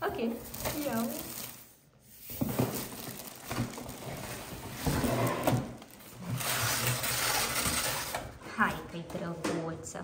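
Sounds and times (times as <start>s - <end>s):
packaging rustling: 0.2s - 8.4s.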